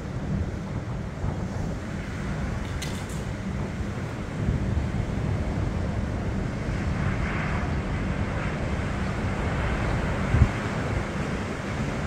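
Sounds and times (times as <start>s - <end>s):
wind buffeting microphone: 0.0s - 12.0s
surf washing ashore: 0.1s - 12.0s.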